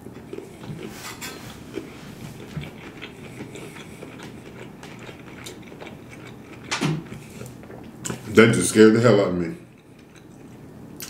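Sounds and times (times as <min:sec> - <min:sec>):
chewing food: 0:00.0 - 0:08.4, 0:09.6 - 0:11.0.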